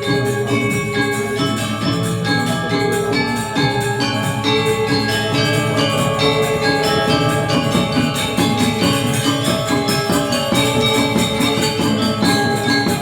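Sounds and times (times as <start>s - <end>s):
metallophones ringing: 0.0s - 13.0s.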